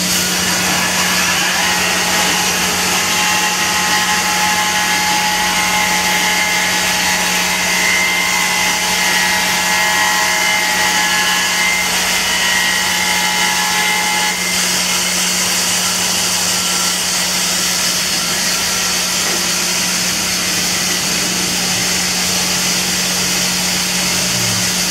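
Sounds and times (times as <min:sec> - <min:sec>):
band sawmill cutting a log: 0:00.0 - 0:24.9.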